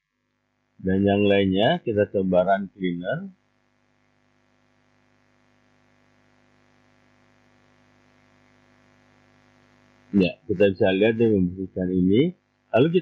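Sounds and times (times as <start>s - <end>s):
faint mains hum: 0.8s - 13.0s.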